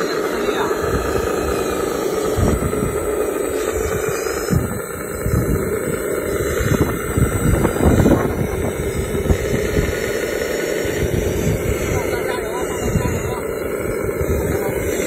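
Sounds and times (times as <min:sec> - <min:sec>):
toy vehicle motor drone: 0:00.0 - 0:15.0
wind on microphone: 0:00.0 - 0:15.0.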